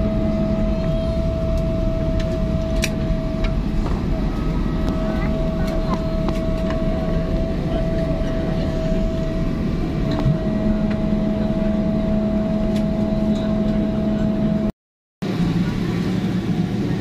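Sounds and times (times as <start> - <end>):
low hum: 0.0 - 14.7
steady whine: 0.0 - 14.7
jet engine rumble: 0.0 - 17.0.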